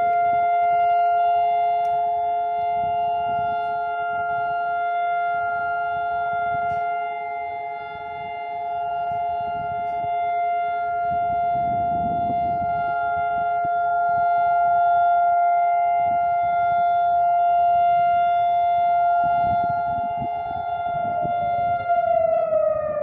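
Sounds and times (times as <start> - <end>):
steady civil defence siren tone: 0.0 - 23.0.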